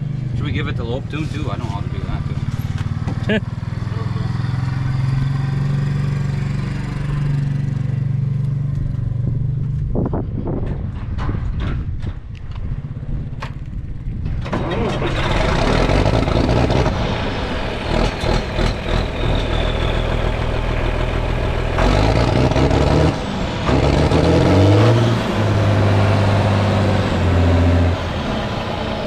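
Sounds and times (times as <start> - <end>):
tractor diesel engine revving: 0.0 - 9.5, 14.0 - 29.0.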